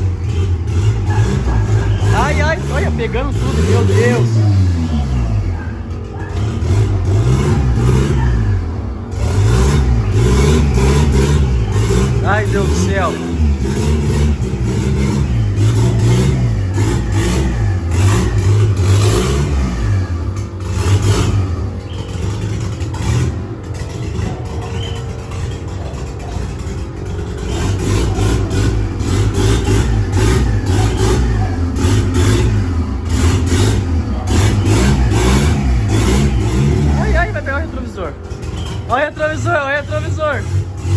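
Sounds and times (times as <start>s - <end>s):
turbocharged engine revving: 0.0s - 40.9s.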